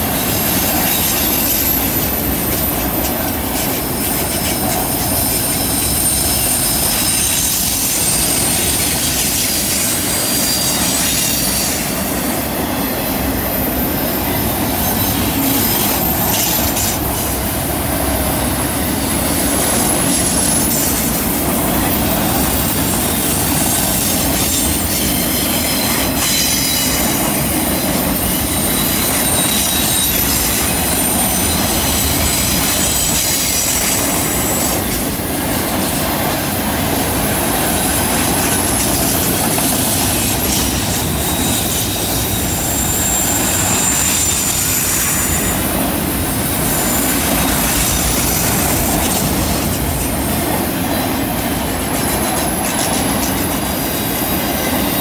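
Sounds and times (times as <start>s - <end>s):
high wheel squeal: 0.0s - 55.0s
steel wheels rumbling on rail: 0.0s - 55.0s.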